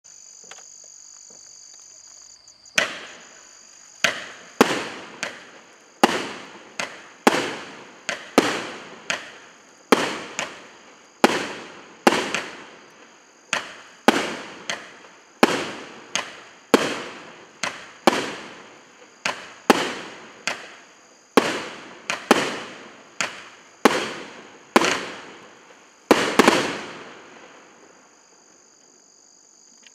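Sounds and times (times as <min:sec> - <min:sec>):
crickets chirring: 0:00.0 - 0:29.9
firework bangs: 0:02.7 - 0:03.4, 0:04.0 - 0:27.8.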